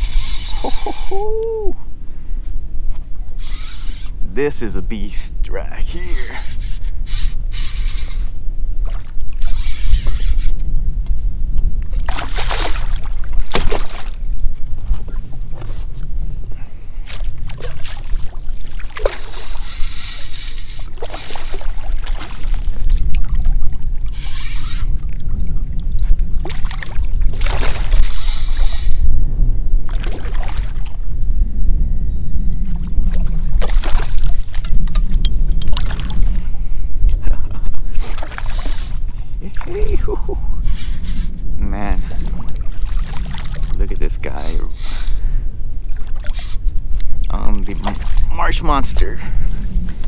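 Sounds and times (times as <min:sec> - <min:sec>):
wind rumble on microphone: 0:00.0 - 0:50.0.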